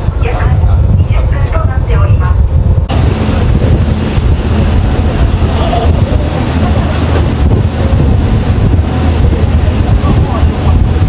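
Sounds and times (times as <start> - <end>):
ferry engine humming: 0.0 - 11.0
wind buffeting microphone: 0.0 - 11.0.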